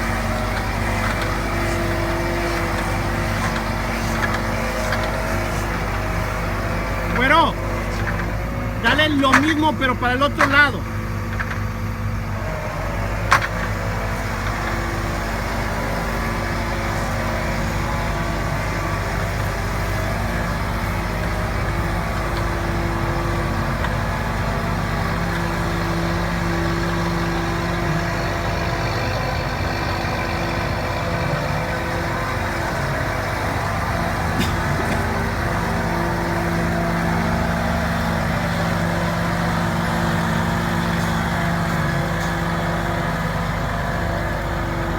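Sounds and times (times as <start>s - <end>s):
diesel engine running: 0.0s - 44.9s
hydraulic hum: 0.0s - 44.9s.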